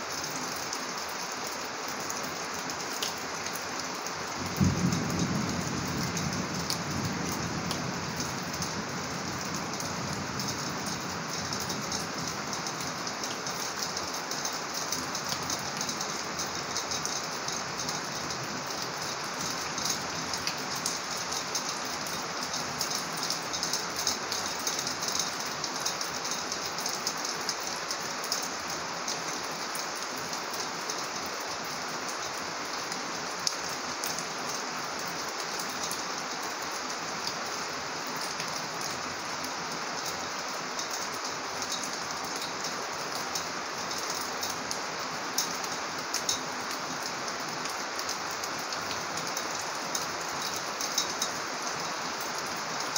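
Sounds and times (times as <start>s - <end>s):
raindrops ticking close by: 0.0s - 52.9s
steady rain: 0.0s - 52.9s.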